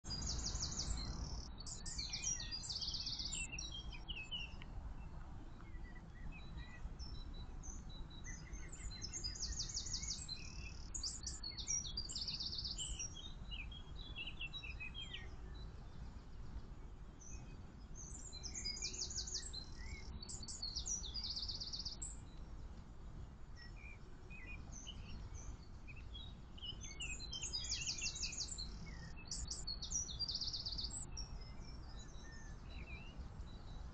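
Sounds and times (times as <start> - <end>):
songbirds trilling: 0.0 - 22.6, 23.5 - 33.9.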